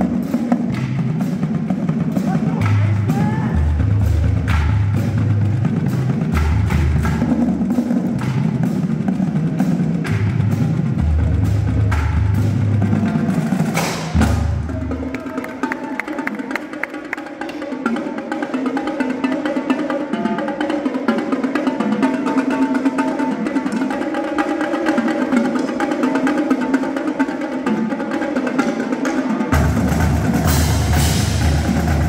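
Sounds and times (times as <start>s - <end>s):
marching drumline playing: 0.0s - 32.0s.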